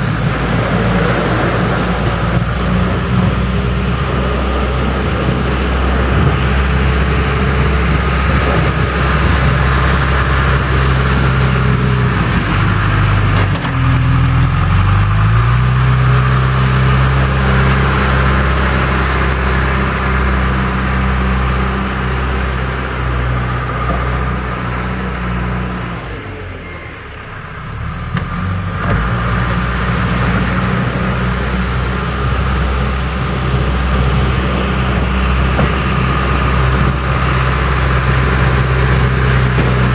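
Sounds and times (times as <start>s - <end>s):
backhoe diesel engine under load: 0.0s - 39.9s.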